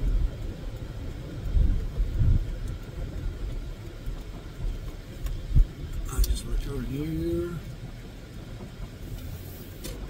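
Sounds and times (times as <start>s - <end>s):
car driving rumble inside cabin: 0.0s - 10.0s.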